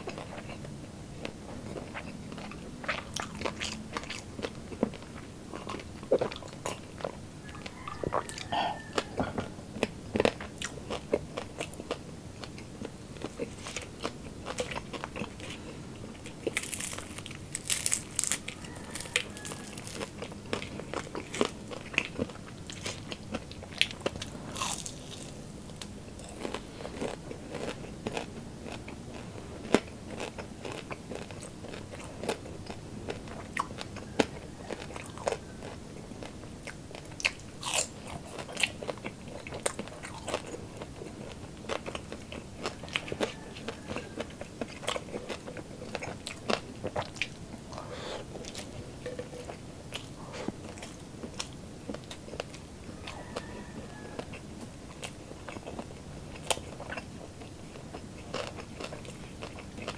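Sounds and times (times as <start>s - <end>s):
crunchy food chewing: 0.0s - 59.9s.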